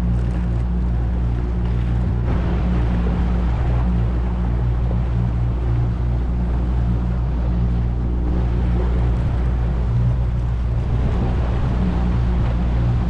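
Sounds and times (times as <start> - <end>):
boat motor humming: 0.0 - 13.0
water noise: 0.0 - 13.0
wind noise: 0.0 - 13.0.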